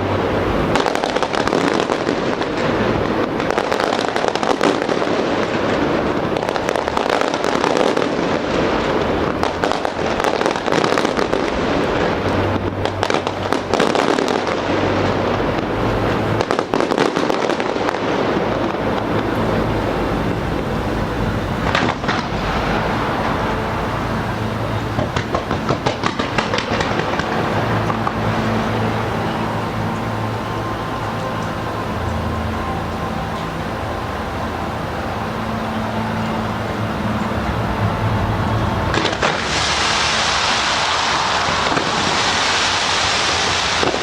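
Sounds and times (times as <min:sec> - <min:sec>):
fireworks bangs and crackling: 0:00.0 - 0:44.0
low steady hum: 0:00.0 - 0:44.0.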